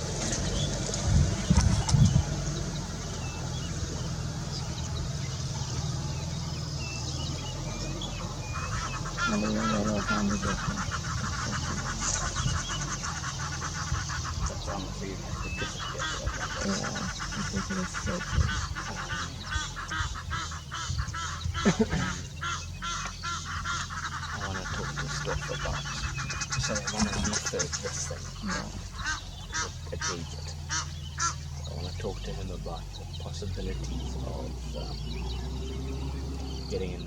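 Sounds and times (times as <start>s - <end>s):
birds honking calls: 0.0s - 37.0s
low steady rumble: 0.0s - 37.0s.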